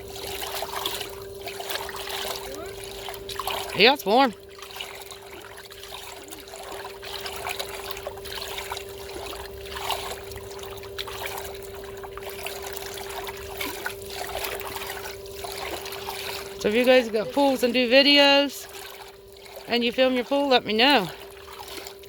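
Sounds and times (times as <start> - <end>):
pool filter pump humming: 0.0 - 22.0
water trickling and lapping: 0.0 - 22.0.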